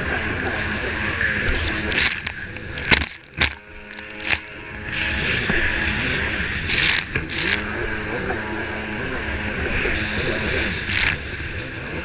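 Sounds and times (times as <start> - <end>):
jetski engine at speed: 0.0 - 12.0.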